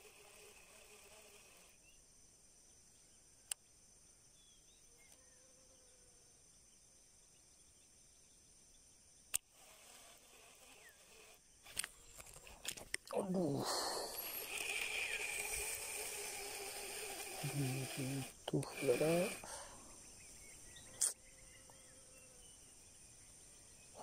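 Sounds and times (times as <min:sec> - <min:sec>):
high insect drone: 0:00.0 - 0:24.0
faint chirps: 0:00.1 - 0:24.0.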